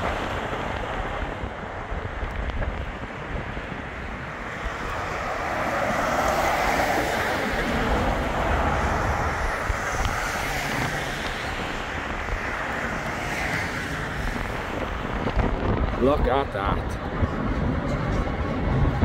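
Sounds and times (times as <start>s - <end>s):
traffic passing: 0.0s - 19.0s
wind rumble on microphone: 0.0s - 19.0s.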